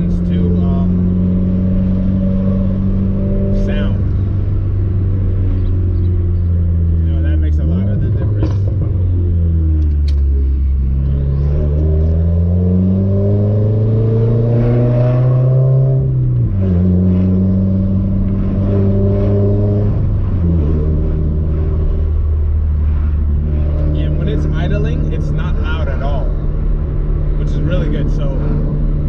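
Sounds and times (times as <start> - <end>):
car exhaust accelerating: 0.0 - 29.0.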